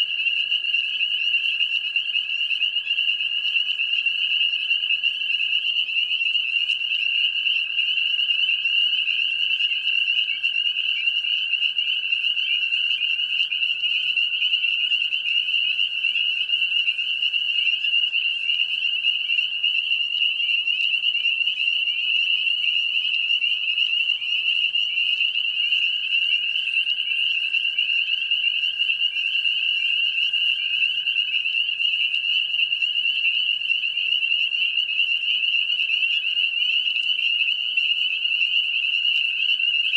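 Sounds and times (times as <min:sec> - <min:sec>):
frogs peeping chorus: 0:00.0 - 0:39.9.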